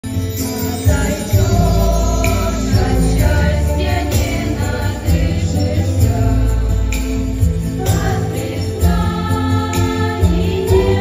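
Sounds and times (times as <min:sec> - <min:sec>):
girls singing together: 0:01.4 - 0:11.0.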